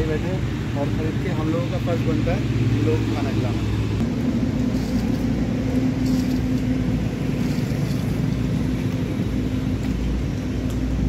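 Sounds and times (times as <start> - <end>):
low hum: 0.0 - 11.0
road traffic engine and tyre rumble: 0.0 - 11.0.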